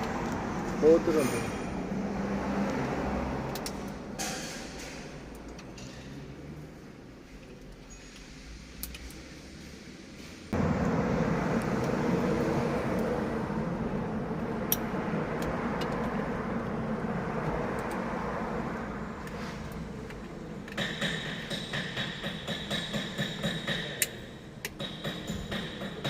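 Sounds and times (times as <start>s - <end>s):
car engine starting and running: 0.0s - 21.6s.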